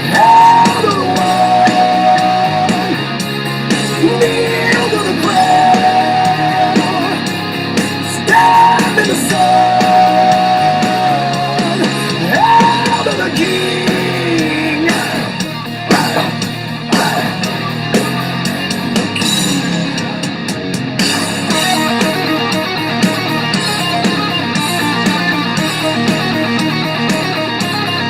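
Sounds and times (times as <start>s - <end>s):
distorted electric guitars: 0.0s - 28.0s
drum kit: 0.0s - 28.0s.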